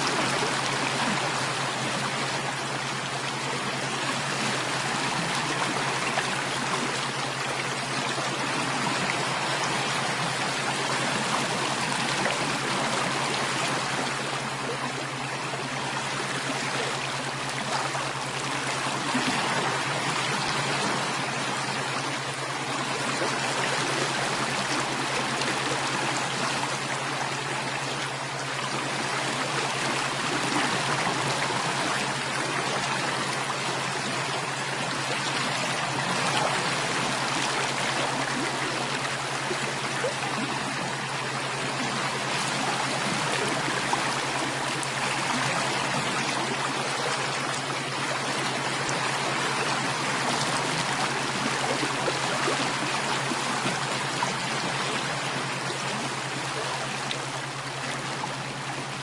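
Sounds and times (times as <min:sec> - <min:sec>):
constant low hum: 0:00.0 - 0:59.0
stream water rushing and trickling: 0:00.0 - 0:59.0.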